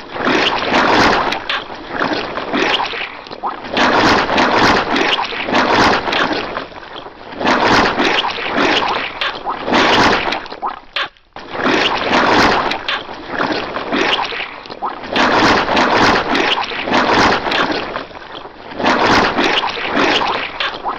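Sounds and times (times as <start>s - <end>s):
cartoon squelching splats: 0.0s - 20.9s.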